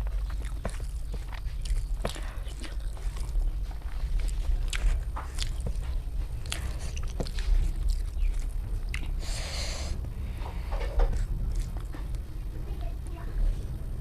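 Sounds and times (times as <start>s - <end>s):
person chewing and eating: 0.0s - 12.5s
steady low hum: 0.0s - 14.0s.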